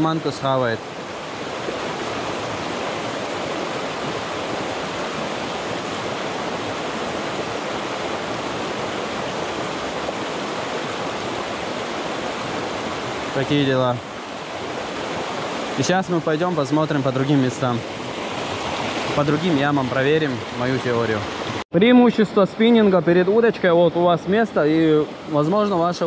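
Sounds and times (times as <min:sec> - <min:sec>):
stream rushing over rocks: 0:00.0 - 0:21.6.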